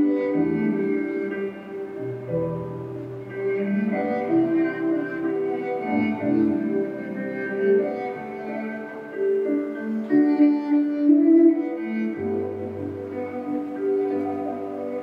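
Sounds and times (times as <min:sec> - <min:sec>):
slow bowed string music: 0:00.0 - 0:15.0.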